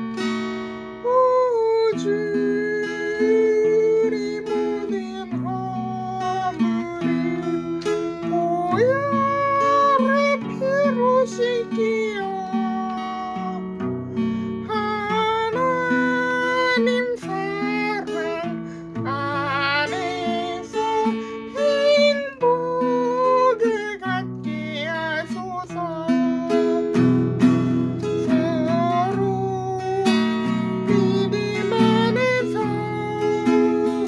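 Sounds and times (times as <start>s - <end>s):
acoustic guitar chords: 0.0s - 34.0s
person singing a slow song: 0.9s - 34.0s.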